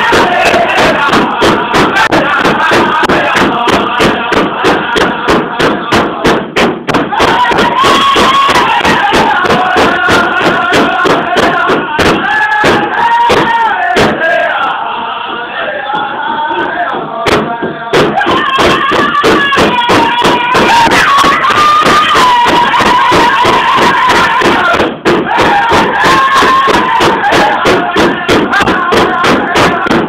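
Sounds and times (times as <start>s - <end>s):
large drum fast beat: 0.0s - 14.5s, 16.3s - 30.0s
men singing together: 0.0s - 30.0s.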